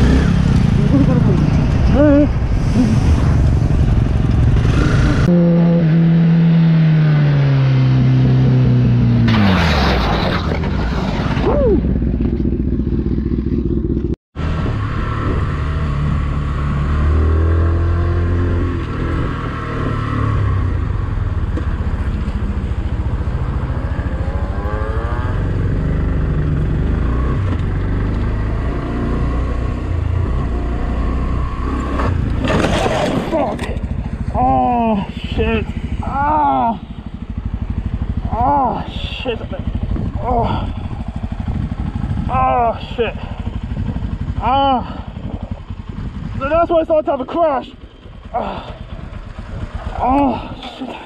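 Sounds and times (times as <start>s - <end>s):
motorcycle engine: 0.0s - 51.0s
wind and road noise: 0.0s - 51.0s.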